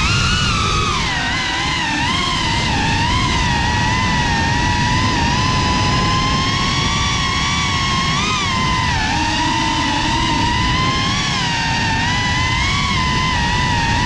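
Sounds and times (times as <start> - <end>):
drone motors whining: 0.0 - 14.0
prop wash and wind rumble: 0.0 - 14.0.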